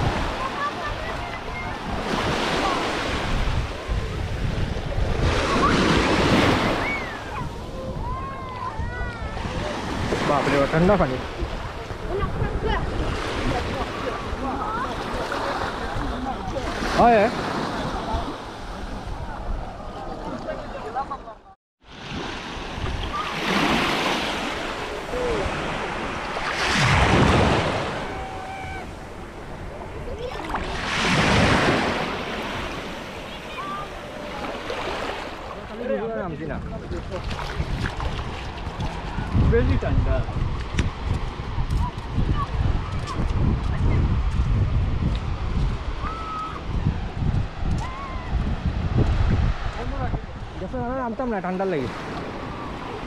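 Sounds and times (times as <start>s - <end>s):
wind buffeting microphone: 0.0s - 21.0s, 22.5s - 51.2s
sea waves breaking on shore: 0.0s - 53.0s.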